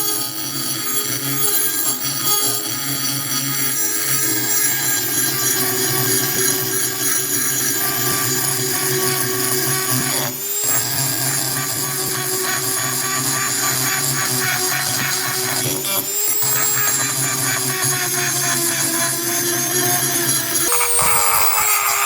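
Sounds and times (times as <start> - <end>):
electric power tool running: 2.7 - 22.0.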